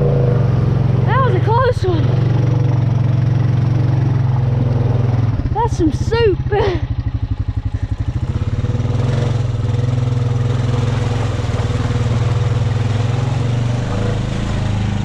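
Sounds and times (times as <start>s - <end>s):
atv engine puttering: 0.0s - 15.0s.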